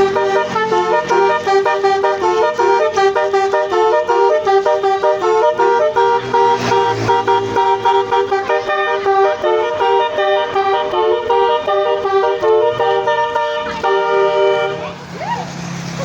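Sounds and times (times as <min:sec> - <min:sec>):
multi-tone bus horn tune: 0:00.0 - 0:15.1.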